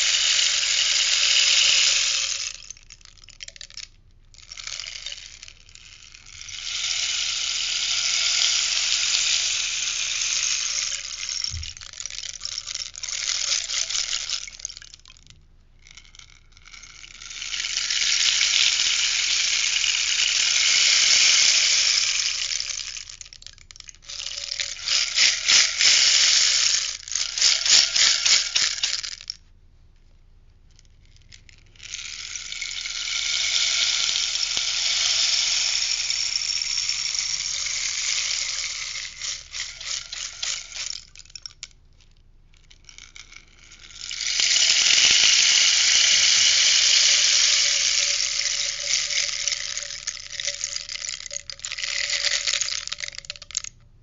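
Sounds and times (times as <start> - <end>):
rainstick pellets pattering: 0.0 - 29.4, 30.8 - 53.8
rainstick rattling strokes: 0.0 - 29.5, 30.6 - 53.8.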